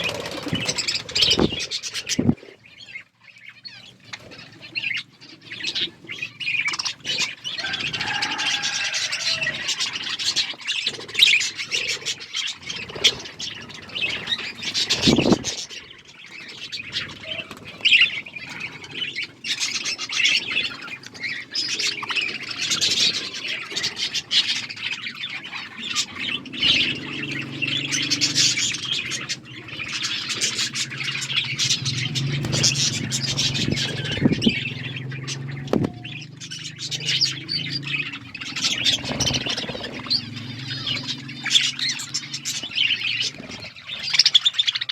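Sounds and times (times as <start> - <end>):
budgerigars chirping: 0.0 - 44.9.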